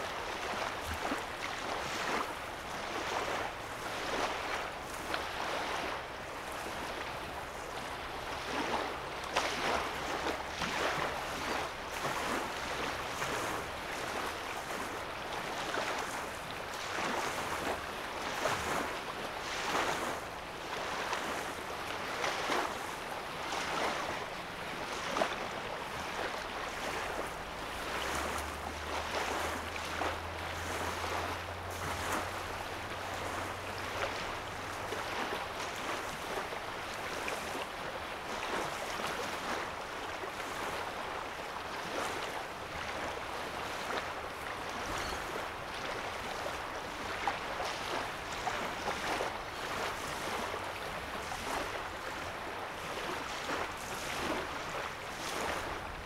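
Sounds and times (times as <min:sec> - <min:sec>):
small water splashes: 0:00.0 - 0:56.0
waves lapping on shore: 0:00.0 - 0:56.0.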